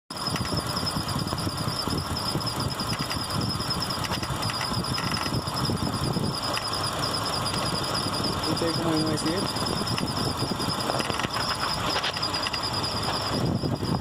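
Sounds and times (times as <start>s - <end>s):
engine idling: 0.1s - 14.0s
high-pitched chirping squeal: 0.2s - 14.0s.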